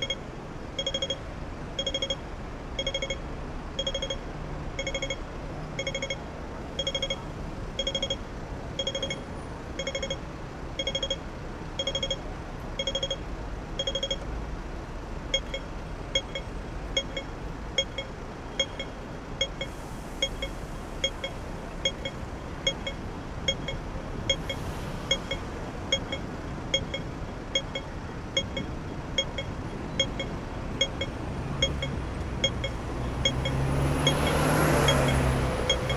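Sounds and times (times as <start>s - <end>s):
crossing signal beeping: 0.0s - 14.3s, 15.3s - 35.9s
crossing signal rapid ticking: 0.0s - 35.9s
street traffic noise: 0.0s - 35.9s.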